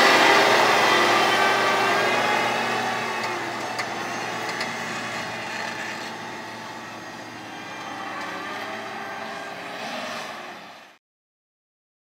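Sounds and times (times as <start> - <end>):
tractor engine running under load: 0.0 - 9.9.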